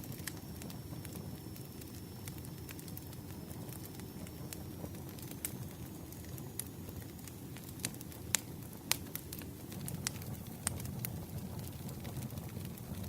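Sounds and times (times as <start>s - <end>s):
campfire flames rumbling: 0.0s - 13.0s
wood crackling and popping: 0.0s - 13.0s.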